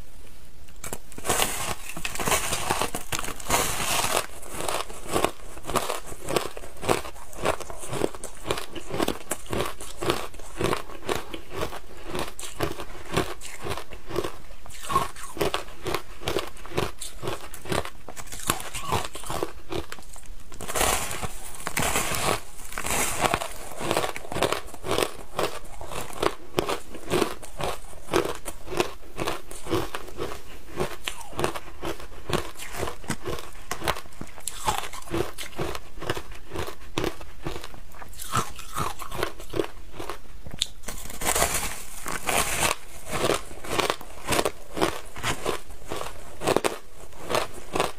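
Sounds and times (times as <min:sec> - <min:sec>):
ice crunching while chewed: 0:00.8 - 0:47.9.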